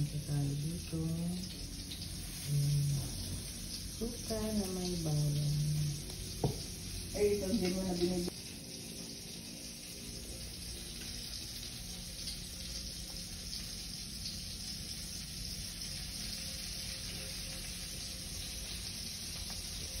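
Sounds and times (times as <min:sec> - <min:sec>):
oil sizzling in a pan: 0:00.0 - 0:20.0.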